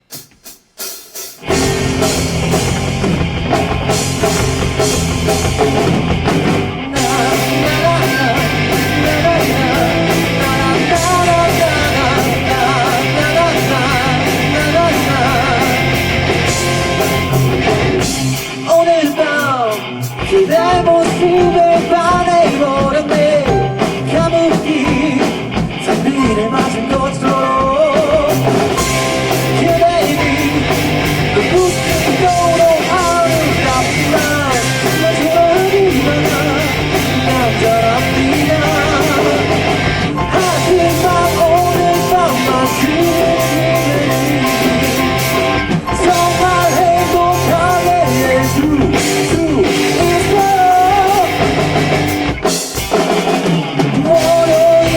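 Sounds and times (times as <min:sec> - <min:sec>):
live rock band playing: 0:00.0 - 0:54.9
person singing: 0:06.8 - 0:17.4, 0:18.0 - 0:52.2, 0:52.9 - 0:54.9.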